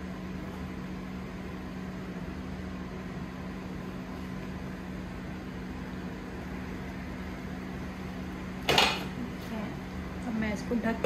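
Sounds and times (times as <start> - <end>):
fan running: 0.0 - 11.0.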